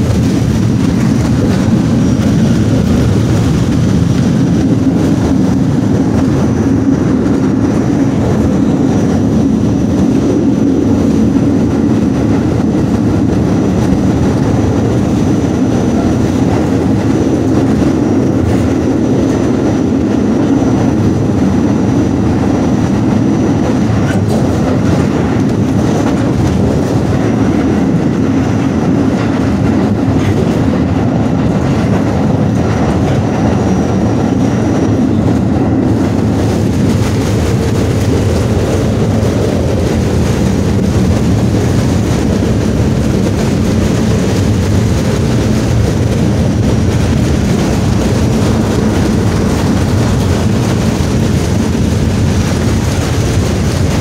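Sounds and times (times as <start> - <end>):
train wheels rolling on rail: 0.0 - 54.0.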